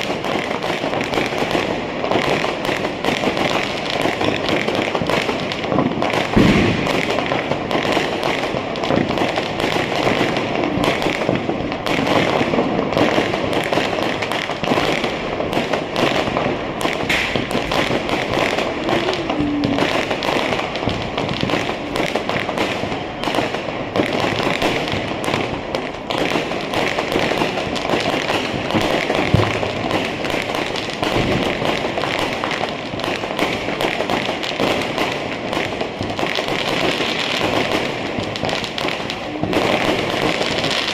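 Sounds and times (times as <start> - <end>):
firecrackers crackling: 0.0 - 40.9
loud firecracker bangs: 0.0 - 40.9.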